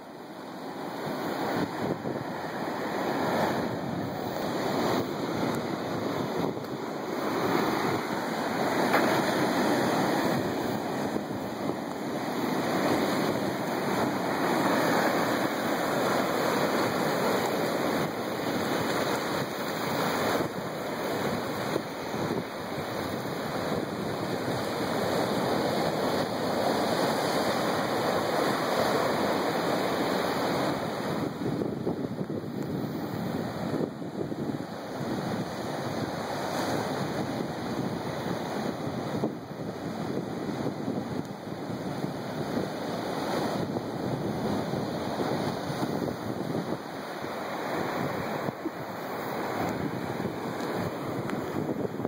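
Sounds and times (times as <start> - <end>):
surf washing over rocks: 0.0 - 52.0
small waves breaking on rocks: 0.8 - 52.0.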